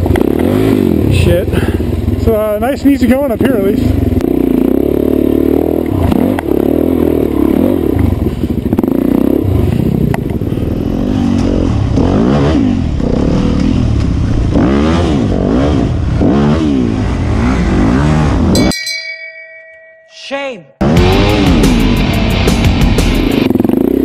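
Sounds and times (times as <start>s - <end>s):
dirt bike engine revving: 0.0s - 18.6s, 20.8s - 24.0s.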